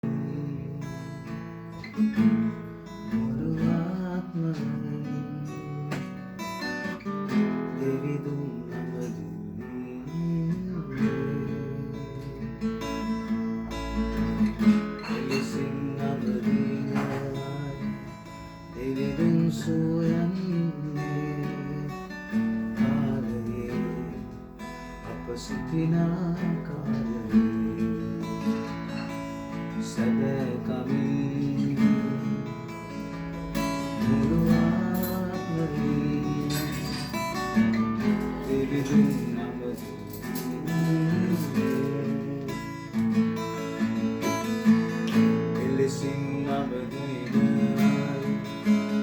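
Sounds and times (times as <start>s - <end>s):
acoustic guitar strumming: 0.0s - 49.0s.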